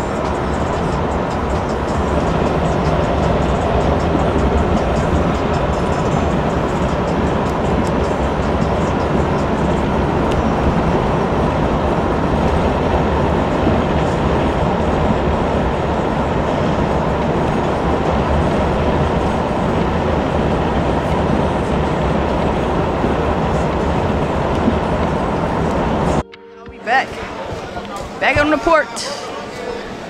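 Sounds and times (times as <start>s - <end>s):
vehicle rumble and road noise: 0.0s - 26.2s.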